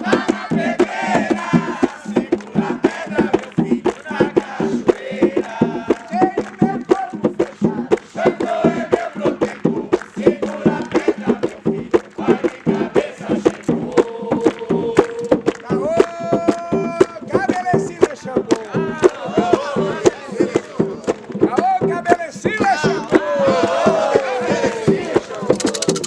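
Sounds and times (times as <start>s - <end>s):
group of voices chanting: 0.0s - 17.1s, 18.6s - 21.3s, 22.4s - 26.0s
ceremonial drumming: 0.0s - 26.0s.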